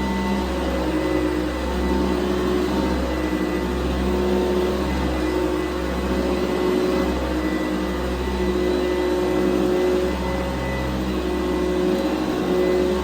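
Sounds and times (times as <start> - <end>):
upright vacuum cleaner running: 0.0 - 13.0.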